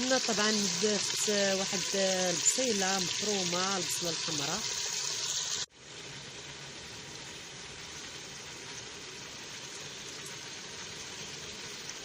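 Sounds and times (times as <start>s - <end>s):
meat and onion sizzling in oil: 0.0s - 12.0s.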